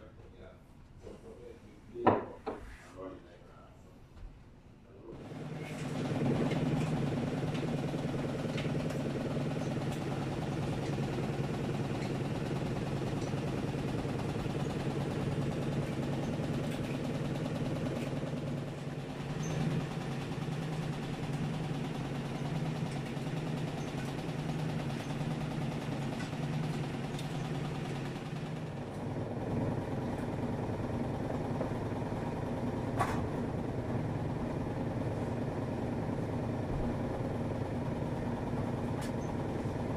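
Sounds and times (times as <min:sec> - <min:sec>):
washing machines and dryers humming: 0:03.6 - 0:39.9.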